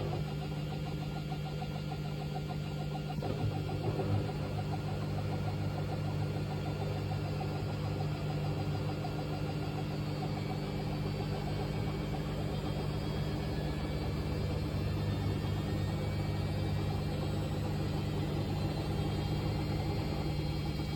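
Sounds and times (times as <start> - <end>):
washing machine rattly drone: 0.0 - 20.9.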